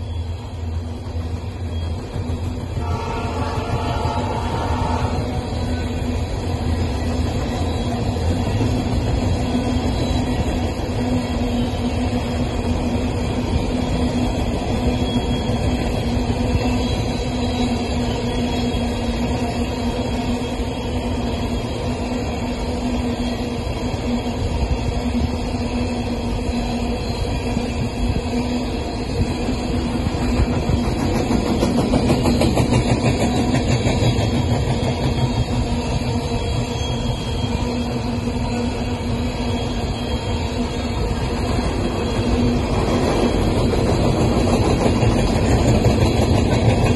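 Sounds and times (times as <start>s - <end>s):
train wheels rumbling on track: 0.0s - 46.9s.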